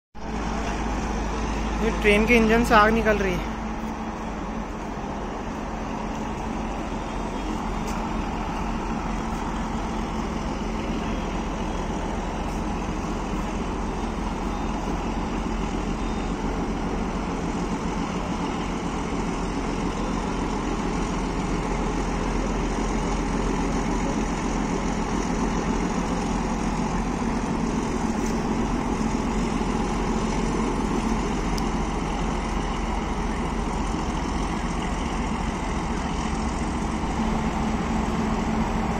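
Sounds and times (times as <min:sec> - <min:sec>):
diesel locomotive engine running: 0:00.2 - 0:38.9.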